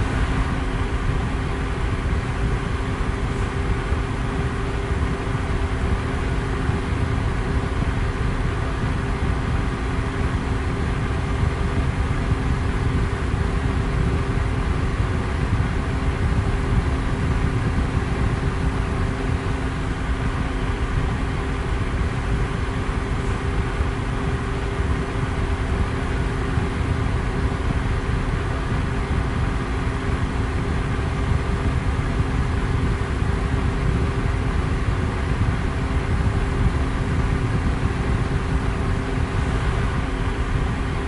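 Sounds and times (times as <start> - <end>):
electric fan rushing air: 0.0 - 41.0
faint motor hum: 0.0 - 41.0.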